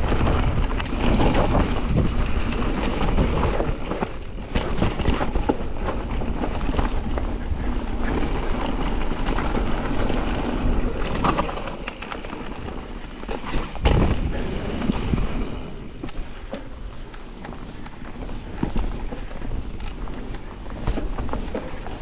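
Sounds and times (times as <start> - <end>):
bike rattling: 0.0 - 22.0
tyres crunching over gravel: 0.0 - 22.0.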